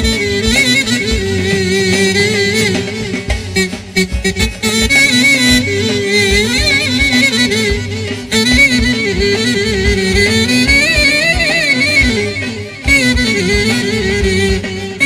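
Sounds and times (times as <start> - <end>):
clarinet melody: 0.0 - 15.0
steady drum beat: 0.0 - 15.0.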